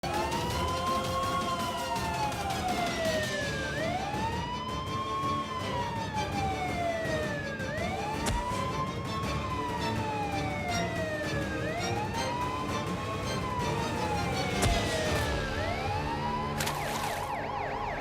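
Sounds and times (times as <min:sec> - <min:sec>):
fire alarm siren wailing: 0:00.0 - 0:18.0.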